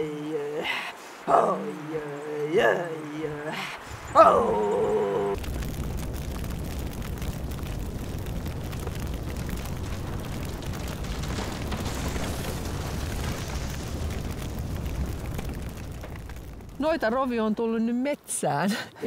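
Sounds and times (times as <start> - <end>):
bonfire crackling and popping: 0.0 - 19.0
low rumble of flames: 0.0 - 19.0.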